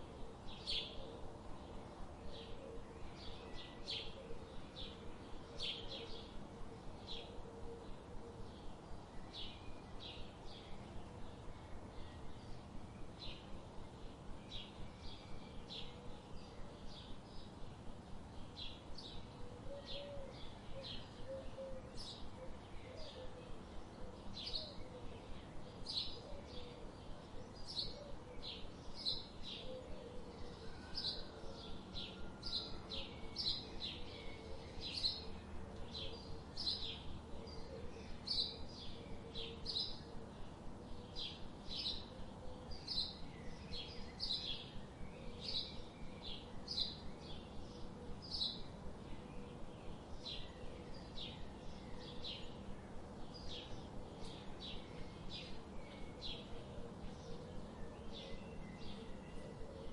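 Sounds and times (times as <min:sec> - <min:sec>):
faint background hiss: 0:00.0 - 0:59.9.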